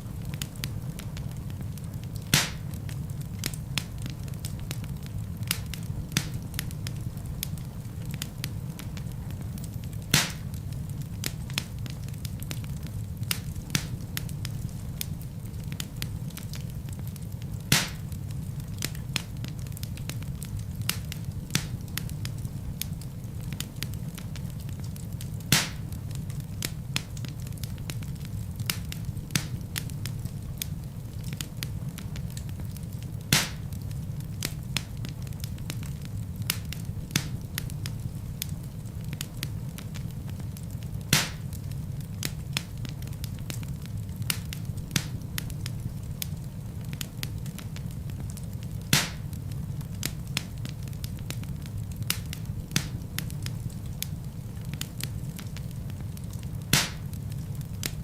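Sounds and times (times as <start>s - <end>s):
burning logs popping: 0.0s - 58.0s
wood fire crackling: 0.0s - 58.0s.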